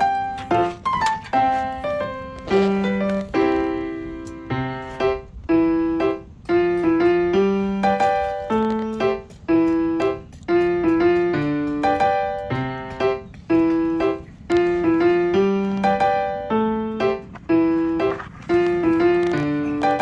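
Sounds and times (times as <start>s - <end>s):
background piano music: 0.0s - 20.0s.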